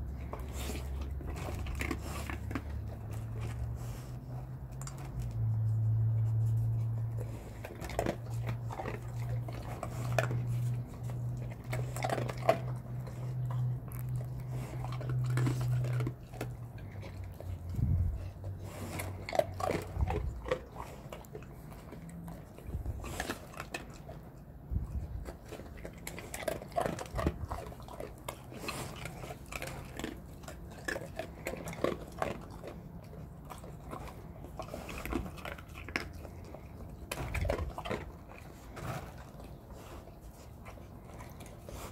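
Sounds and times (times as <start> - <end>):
dogs crunching kibble: 0.0 - 41.9
low steady hum: 0.0 - 41.9.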